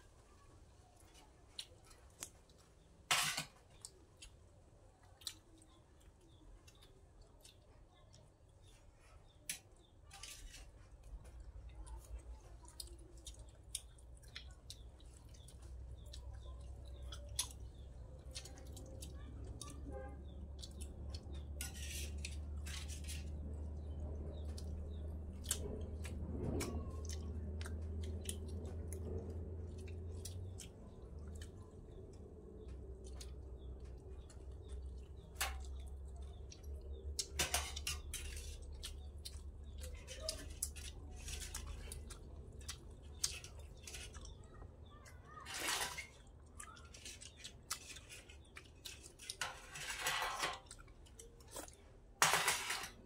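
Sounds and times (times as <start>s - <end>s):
people chewing and lip-smacking: 0.0s - 49.6s, 50.6s - 52.2s
low steady hum: 0.0s - 53.0s.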